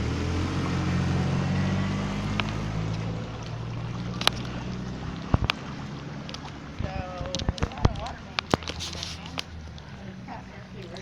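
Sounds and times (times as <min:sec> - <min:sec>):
engine running with low hum: 0:00.0 - 0:11.0.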